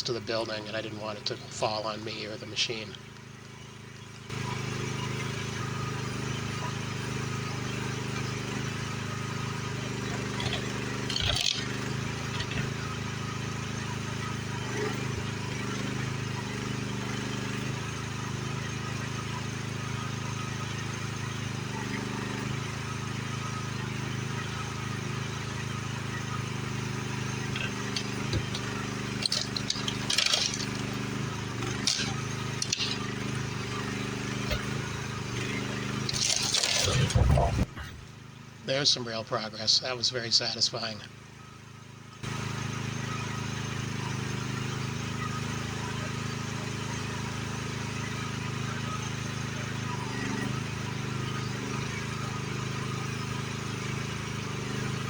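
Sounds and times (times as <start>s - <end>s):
demolition machine engine running: 0.0s - 55.0s.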